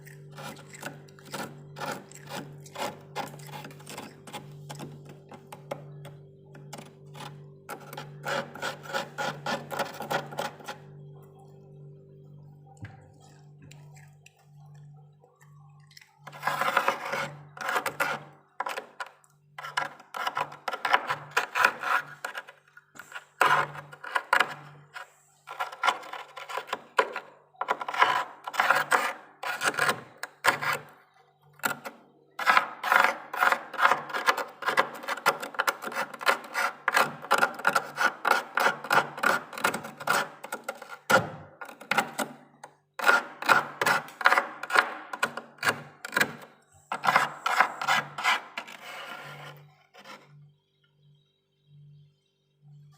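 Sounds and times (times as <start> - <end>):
spoon scraping frost: 0.0 - 11.6, 12.8 - 31.0, 31.6 - 50.4.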